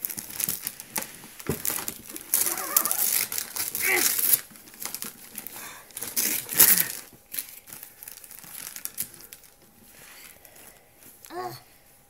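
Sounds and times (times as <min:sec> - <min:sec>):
wrapping paper rustling: 0:00.0 - 0:11.6.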